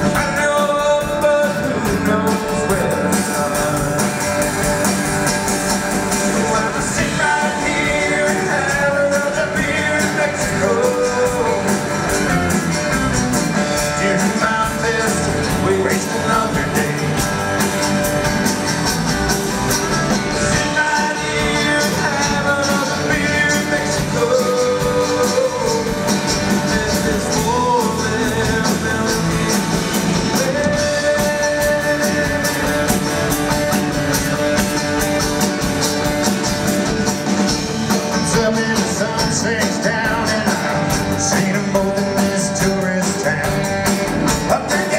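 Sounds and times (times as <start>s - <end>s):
person singing: 0.0s - 4.5s, 6.2s - 17.5s, 20.1s - 33.6s, 38.1s - 44.9s
lead guitar bending and sliding: 0.0s - 44.9s
live rock band playing: 0.0s - 44.9s.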